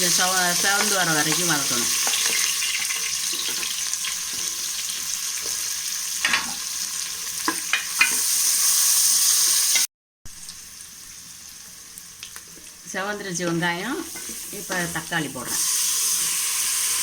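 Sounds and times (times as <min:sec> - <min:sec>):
onions sizzling in a pan: 0:00.0 - 0:17.0.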